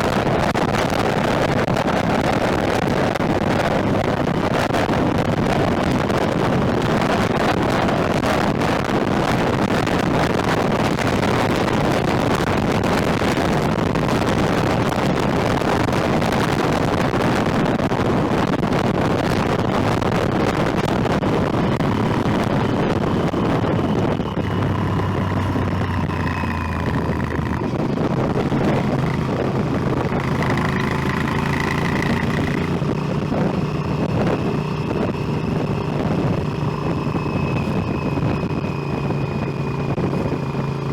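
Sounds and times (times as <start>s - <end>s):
motorcycle engine: 0.0s - 40.9s
wind rush on microphone: 0.0s - 40.9s.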